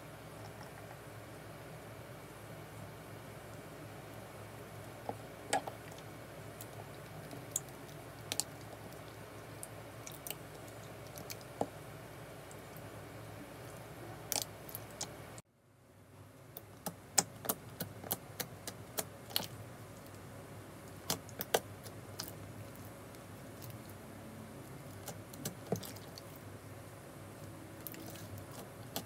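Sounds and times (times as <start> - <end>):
low steady hiss: 0.0 - 29.0.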